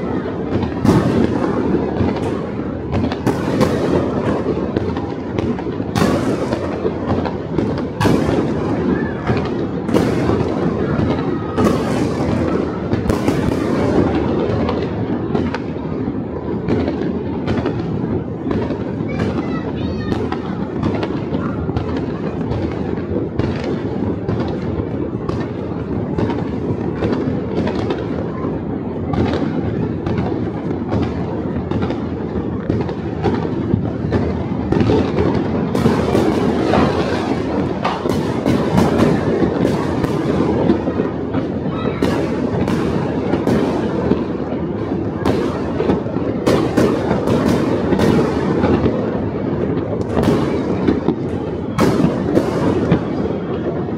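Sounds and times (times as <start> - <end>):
distant fireworks rumble: 0.0 - 53.9
sharp firecracker bangs: 0.0 - 53.9.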